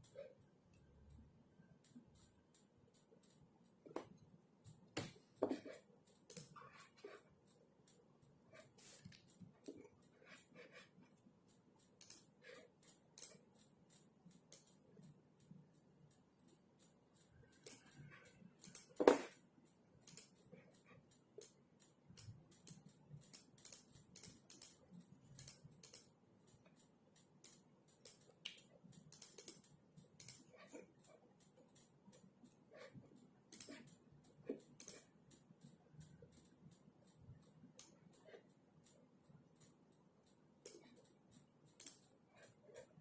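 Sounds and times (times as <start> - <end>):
computer keyboard typing: 0.0 - 43.0.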